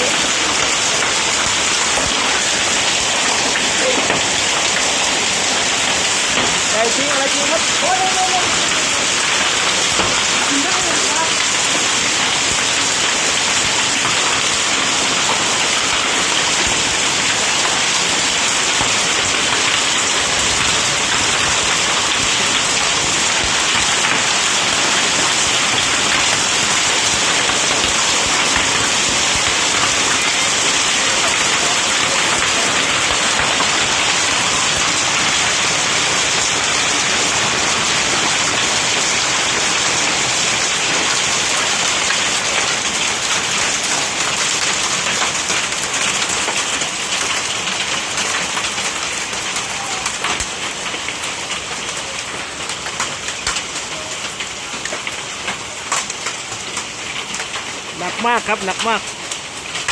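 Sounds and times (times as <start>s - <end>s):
heavy rain and hail: 0.0s - 59.9s.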